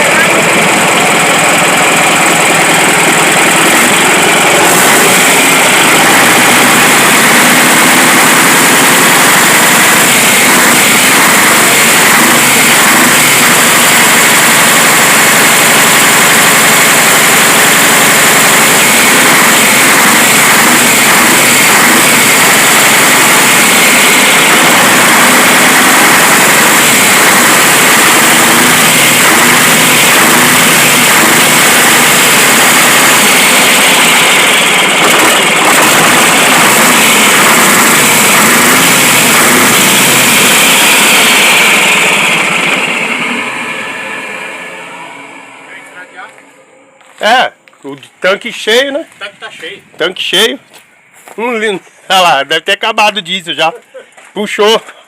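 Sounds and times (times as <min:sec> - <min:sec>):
diesel engine running loudly: 0:00.0 - 0:52.1.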